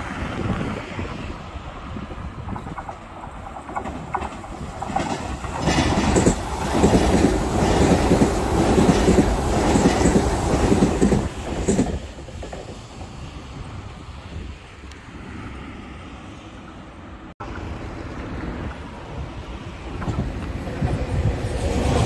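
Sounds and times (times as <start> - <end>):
electric train passing: 0.0 - 22.0
wheels clattering on rails: 0.4 - 13.9, 17.4 - 22.0.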